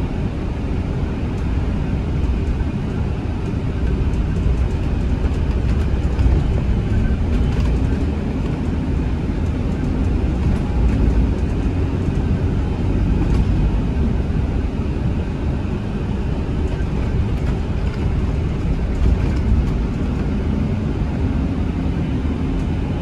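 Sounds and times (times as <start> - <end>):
bus engine and tyres rumbling: 0.0 - 23.0.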